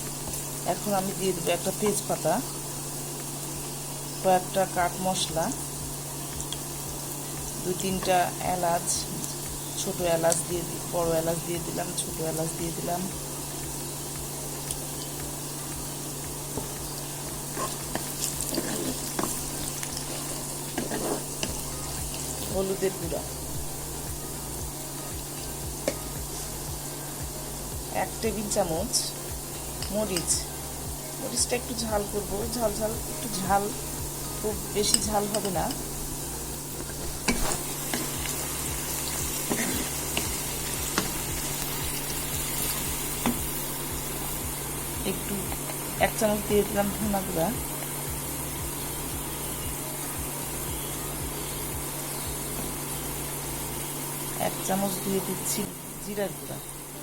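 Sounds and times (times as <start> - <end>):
onions frying in hot oil: 0.0 - 57.0.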